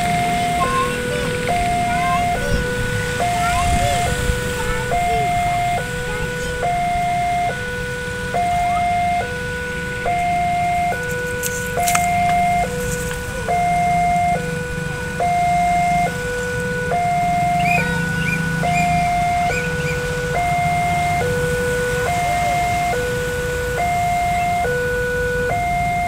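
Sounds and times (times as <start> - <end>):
level crossing two-tone alarm: 0.0 - 26.0
road traffic rumble: 0.0 - 26.0.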